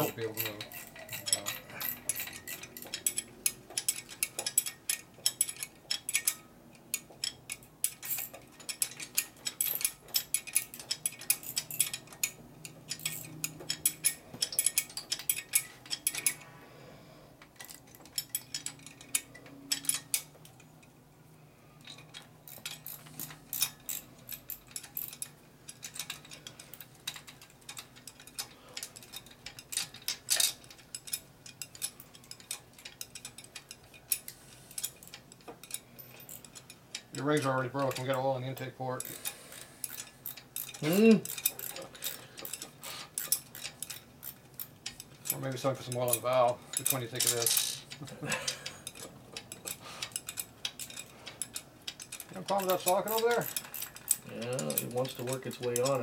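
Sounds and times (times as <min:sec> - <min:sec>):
ratchet wrench clicking: 0:00.0 - 0:16.4, 0:21.8 - 0:56.0
metal wrenches clinking: 0:00.0 - 0:16.5, 0:17.5 - 0:20.9, 0:21.8 - 0:56.0.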